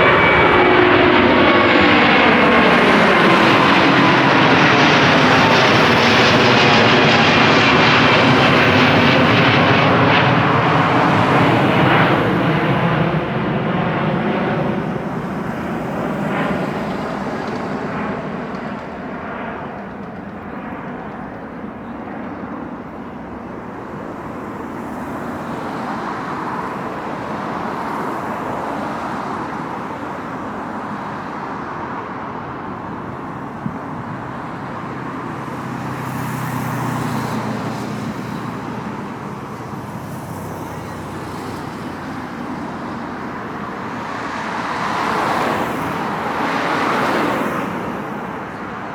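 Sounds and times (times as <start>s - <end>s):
jet airliner engines: 0.0s - 48.9s
road traffic rumble: 0.0s - 48.9s.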